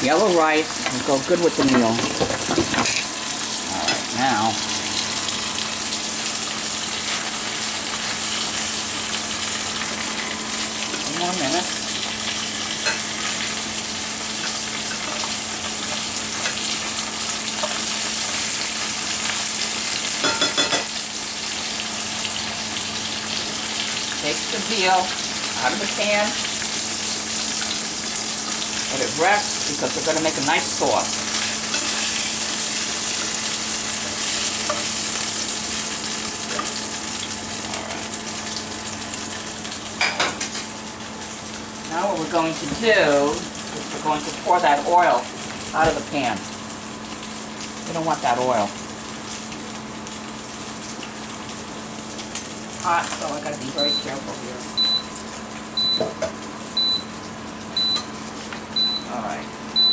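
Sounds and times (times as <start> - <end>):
meat sizzling in oil: 0.0 - 59.9.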